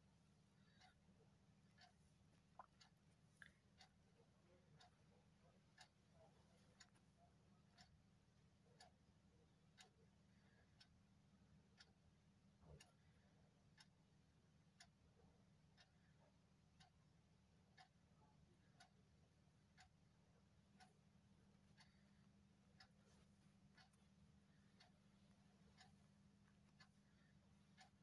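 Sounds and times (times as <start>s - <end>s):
clock ticking faintly: 0.0s - 28.0s
low steady hum: 0.0s - 28.0s.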